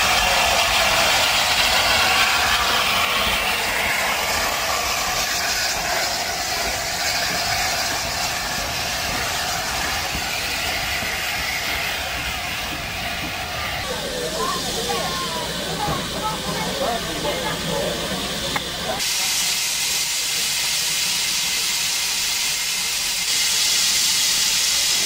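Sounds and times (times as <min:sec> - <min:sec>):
steam hissing: 0:00.0 - 0:25.0
train coaches rolling by: 0:00.0 - 0:25.0.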